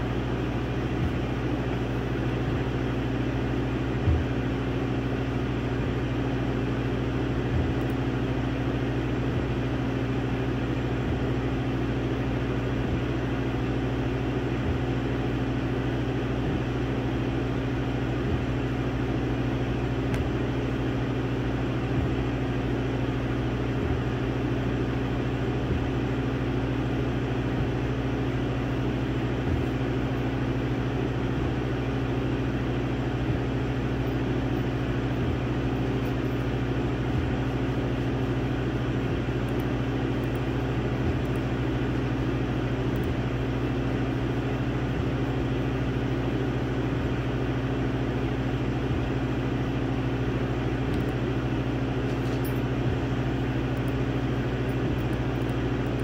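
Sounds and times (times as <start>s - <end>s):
laser engraver humming: 0.0s - 56.0s.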